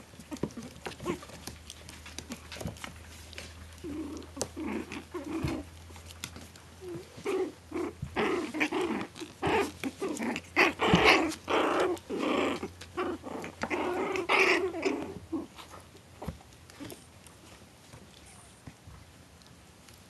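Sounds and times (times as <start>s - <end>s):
puppies growling in play: 0.0s - 18.8s.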